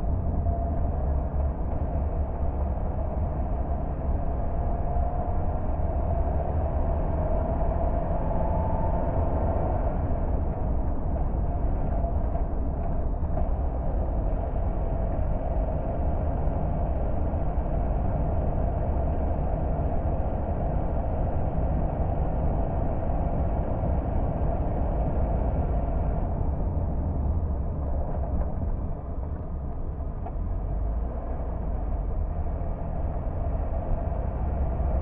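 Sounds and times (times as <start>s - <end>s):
car engine rumble: 0.0s - 35.0s
tyres on road: 0.0s - 35.0s.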